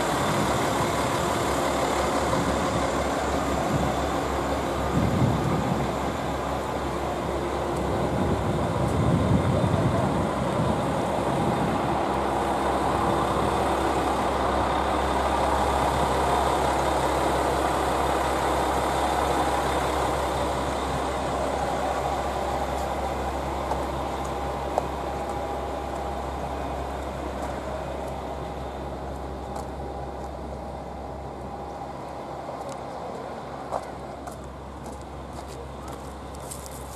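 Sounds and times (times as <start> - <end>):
diesel railcar engine humming: 0.0 - 36.9.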